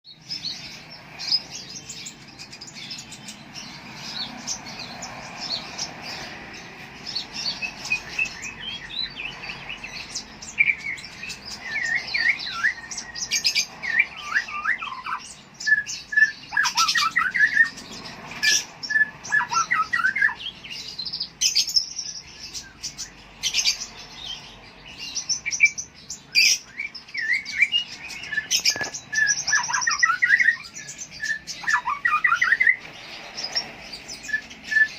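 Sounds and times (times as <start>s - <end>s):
songbird chirping and trilling: 0.0s - 34.9s.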